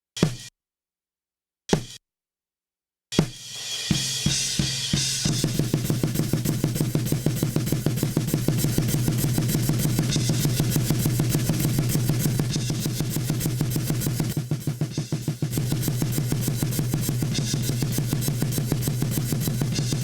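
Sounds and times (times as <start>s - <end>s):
drum kit playing: 3.2s - 20.0s.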